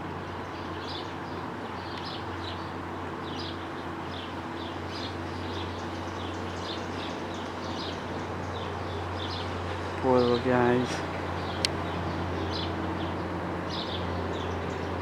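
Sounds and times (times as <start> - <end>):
lawnmower engines droning: 0.0 - 15.0.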